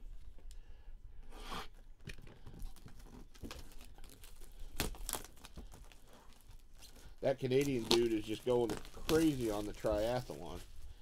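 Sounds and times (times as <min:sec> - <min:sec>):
plastic wrap crinkling and tearing: 0:02.2 - 0:11.0.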